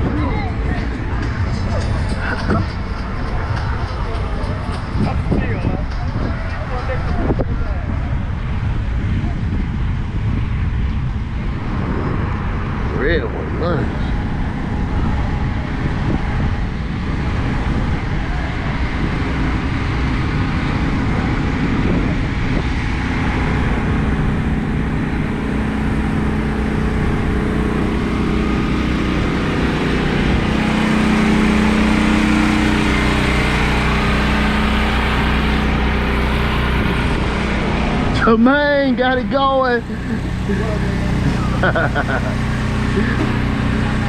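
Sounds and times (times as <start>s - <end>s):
car engines rumbling at low speed: 0.0s - 44.0s.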